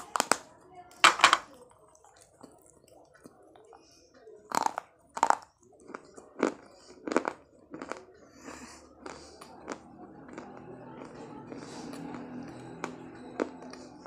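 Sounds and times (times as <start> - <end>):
crunching between teeth: 0.0 - 3.8, 4.5 - 14.0
soft chewing: 0.0 - 14.0.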